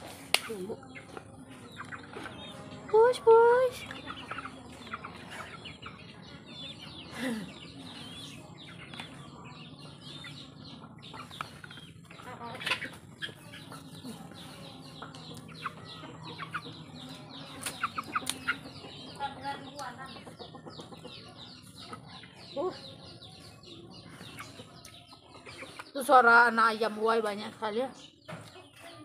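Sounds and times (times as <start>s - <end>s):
chicks peeping: 0.0s - 29.0s
hens clucking: 0.0s - 29.0s.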